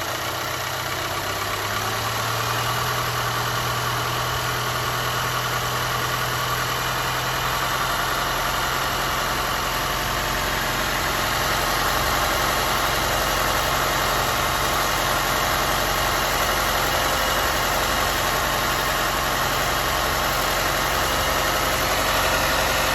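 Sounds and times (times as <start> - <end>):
car engine idling roughly: 0.0 - 22.9.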